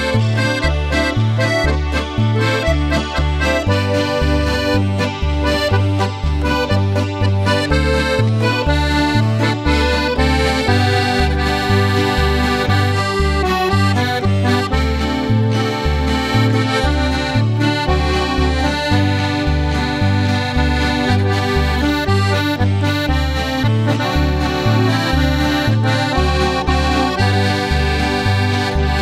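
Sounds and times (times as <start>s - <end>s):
alternating bass line: 0.0s - 29.0s
lively accordion dance music: 0.0s - 29.0s.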